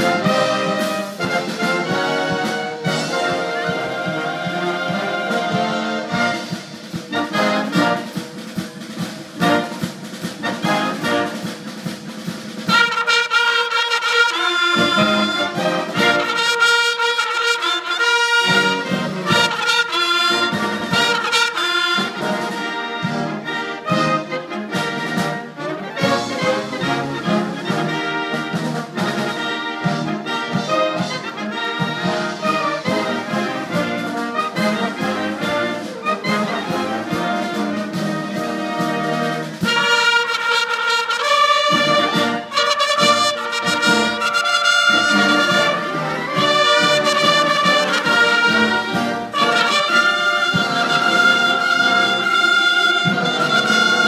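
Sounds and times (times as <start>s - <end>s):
military brass band with bugles: 0.0s - 54.0s.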